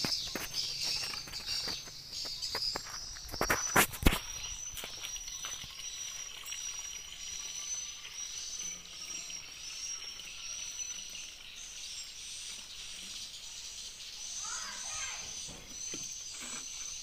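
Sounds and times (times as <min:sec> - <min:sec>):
water trickling into bottle: 0:00.2 - 0:14.0, 0:15.4 - 0:17.0
high insect drone: 0:02.5 - 0:17.0.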